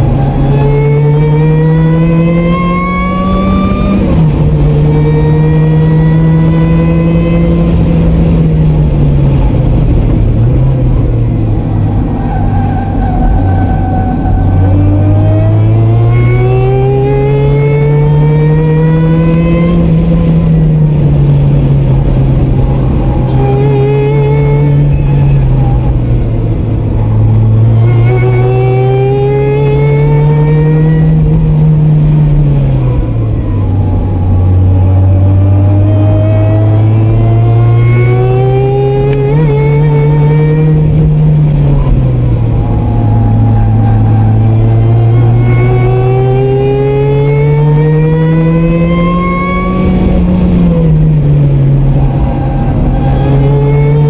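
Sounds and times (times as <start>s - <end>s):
supercharged car engine revving: 0.0s - 54.0s.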